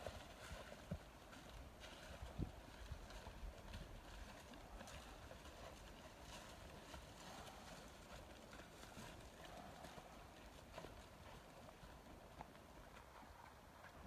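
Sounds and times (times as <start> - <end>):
mule hoofbeats on dirt: 0.0 - 14.0.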